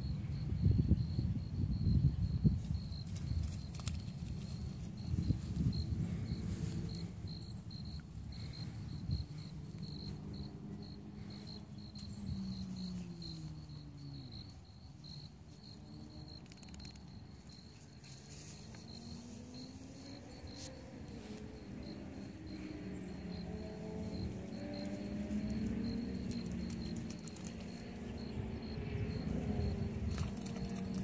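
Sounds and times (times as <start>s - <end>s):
cricket chirping: 0.0s - 31.0s.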